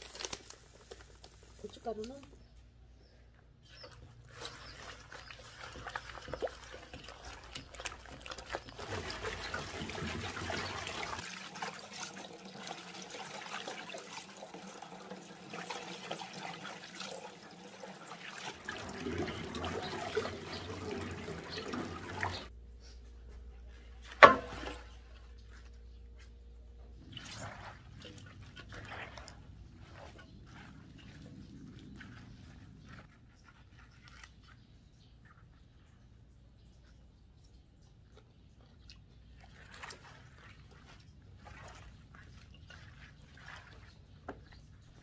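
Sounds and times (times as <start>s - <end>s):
wet squishing of hands mixing: 0.0s - 45.0s
drips and trickles: 3.6s - 22.5s, 26.9s - 45.0s.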